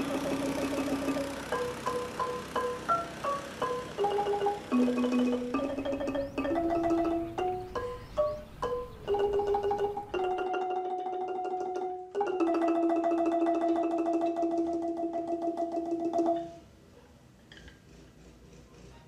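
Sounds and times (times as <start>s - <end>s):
wooden xylophone tremolo rolls: 0.0s - 16.7s.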